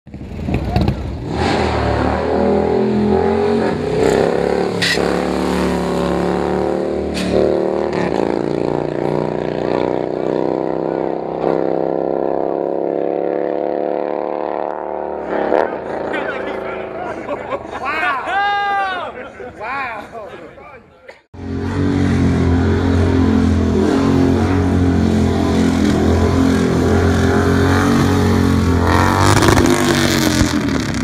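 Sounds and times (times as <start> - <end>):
motorcycle engine revving: 0.1 - 17.3, 21.4 - 31.0.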